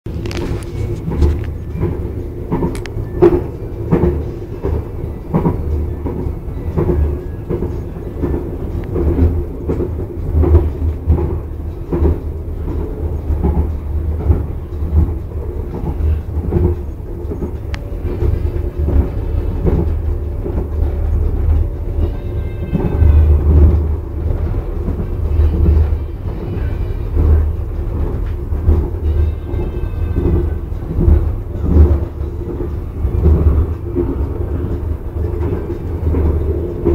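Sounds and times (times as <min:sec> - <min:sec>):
train rumble: 0:00.0 - 0:36.9.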